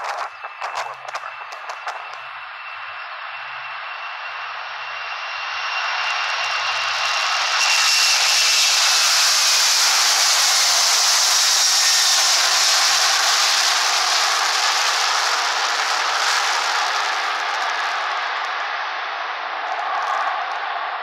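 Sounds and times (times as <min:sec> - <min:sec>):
jet engines roaring: 0:00.0 - 0:19.9
faint high whine: 0:00.0 - 0:21.0.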